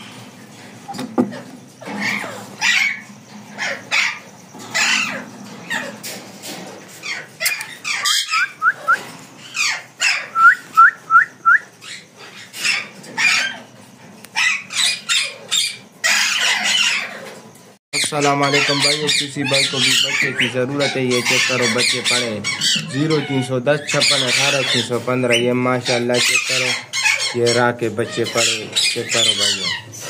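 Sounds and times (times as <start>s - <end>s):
parakeet screeching: 1.8s - 6.2s, 7.0s - 10.5s, 11.8s - 13.7s, 14.4s - 17.3s, 18.0s - 30.0s.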